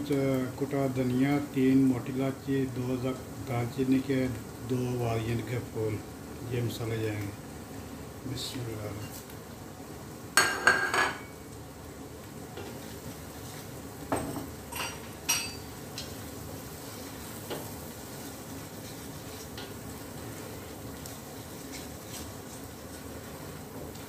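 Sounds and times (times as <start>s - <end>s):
onions sizzling in a pot: 0.0s - 24.0s.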